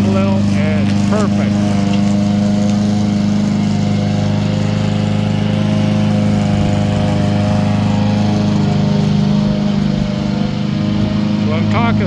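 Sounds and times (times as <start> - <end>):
lawn mower running: 0.0 - 12.0.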